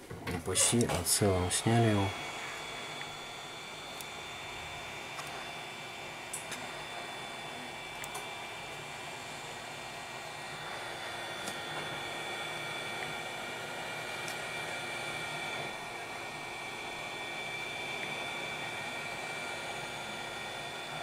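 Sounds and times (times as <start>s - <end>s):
heat gun blowing with fan whine: 0.0s - 21.0s.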